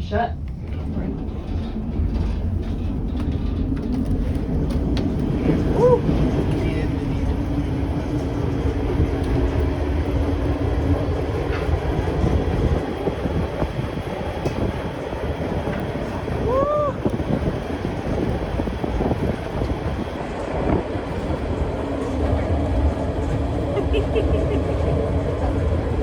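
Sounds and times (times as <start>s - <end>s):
train rumbling and clattering: 0.0s - 26.0s.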